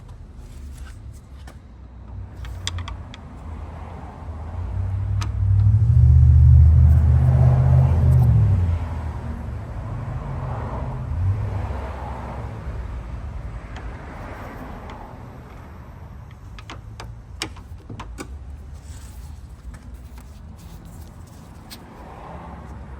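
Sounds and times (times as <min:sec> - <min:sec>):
passing vehicle engine rumble: 0:02.1 - 0:22.9.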